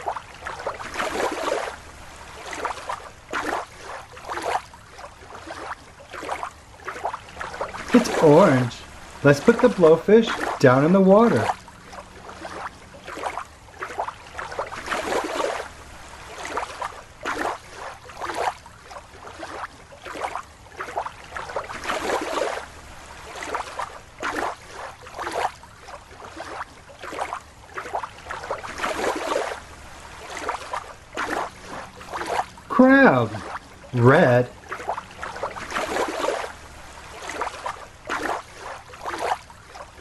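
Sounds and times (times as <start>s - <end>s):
water sloshing and splashing: 0.0s - 40.0s.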